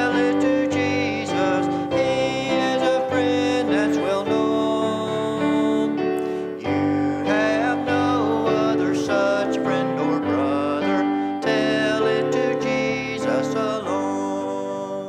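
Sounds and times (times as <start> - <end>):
person singing: 0.0 - 15.0
piano: 0.0 - 15.0.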